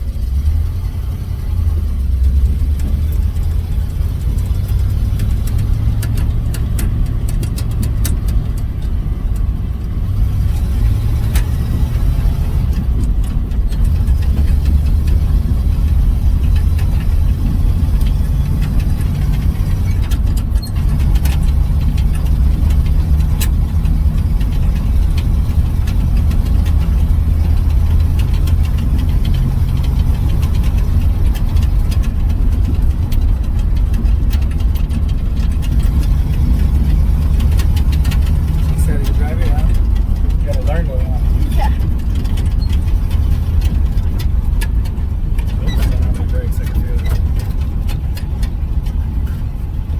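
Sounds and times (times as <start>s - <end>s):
pickup truck engine rumbling: 0.0s - 49.9s.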